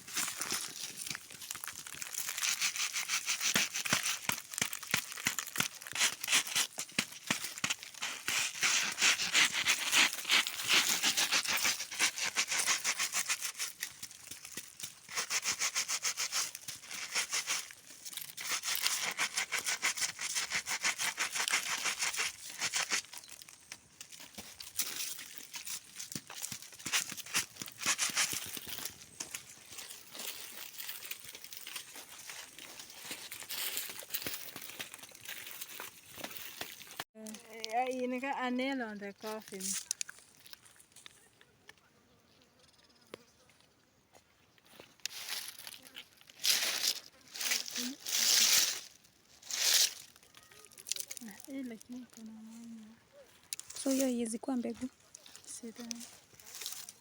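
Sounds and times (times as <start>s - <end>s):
dry plant material rustling: 0.0s - 41.3s, 44.6s - 57.0s.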